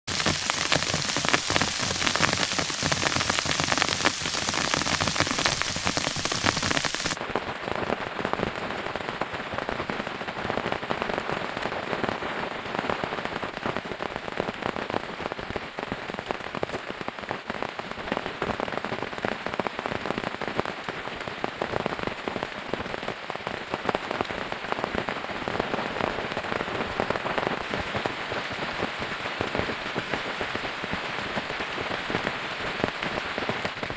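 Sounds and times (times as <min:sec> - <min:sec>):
steady rain patter: 0:00.0 - 0:33.9.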